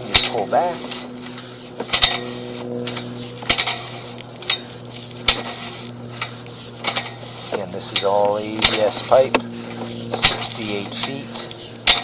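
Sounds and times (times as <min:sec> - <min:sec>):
metallic cable clinks: 0:00.0 - 0:12.0
steady low hum: 0:00.0 - 0:12.0.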